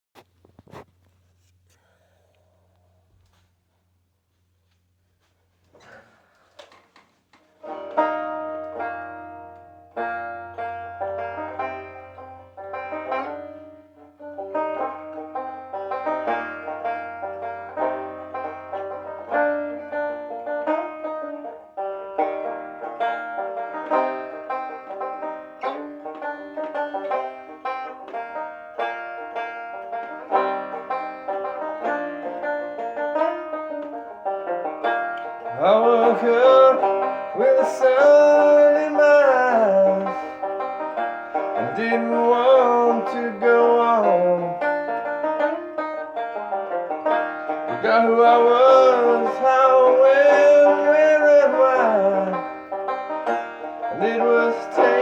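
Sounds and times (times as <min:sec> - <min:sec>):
banjo plucked notes: 0:07.5 - 0:55.0.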